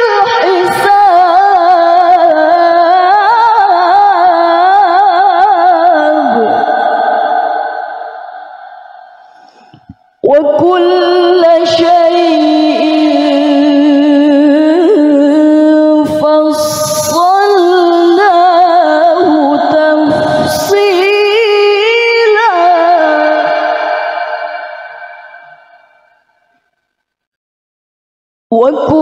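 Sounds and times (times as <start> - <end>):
woman reciting melodically: 0.0 - 8.0, 10.2 - 25.7, 28.5 - 29.0.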